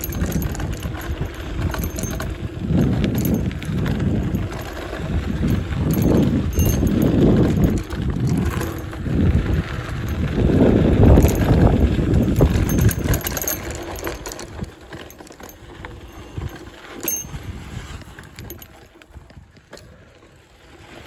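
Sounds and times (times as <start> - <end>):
bike rattling over bumps: 0.0 - 21.0.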